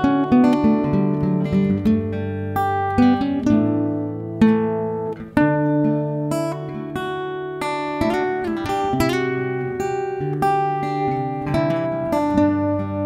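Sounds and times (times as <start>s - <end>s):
acoustic guitar melody: 0.0s - 13.0s.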